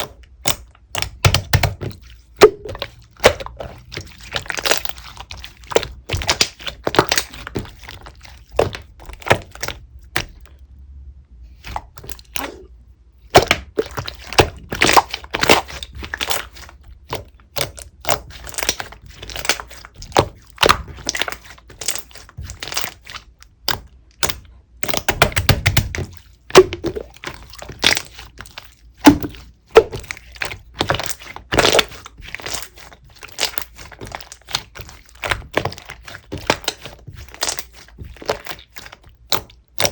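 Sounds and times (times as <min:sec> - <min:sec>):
slime clicks and squelches: 0:00.0 - 0:10.6, 0:13.3 - 0:39.9.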